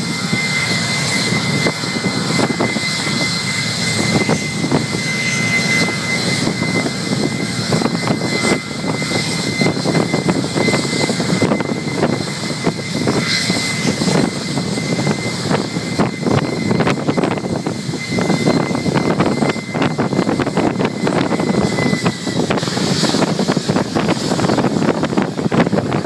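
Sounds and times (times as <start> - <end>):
jet engines running at high power: 0.0 - 26.0.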